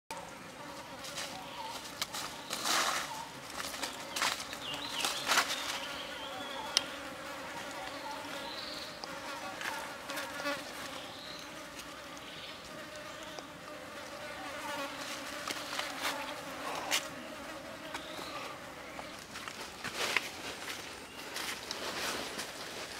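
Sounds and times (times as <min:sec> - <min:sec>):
insects buzzing: 0:00.1 - 0:22.9.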